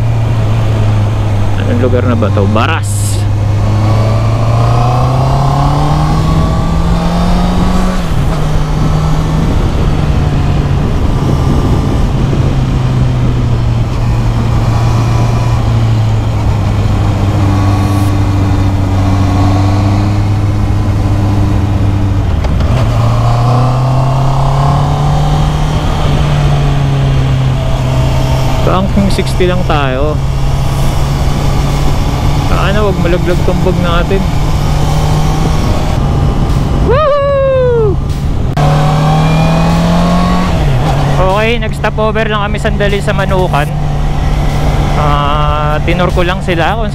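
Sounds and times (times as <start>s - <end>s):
steady rushing noise: 0.0s - 46.9s.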